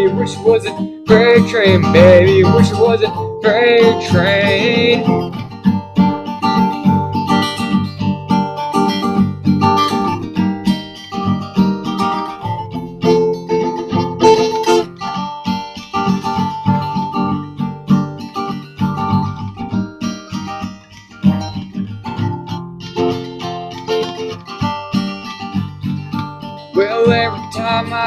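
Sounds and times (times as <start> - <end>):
acoustic guitar picking and strumming: 0.0 - 28.0.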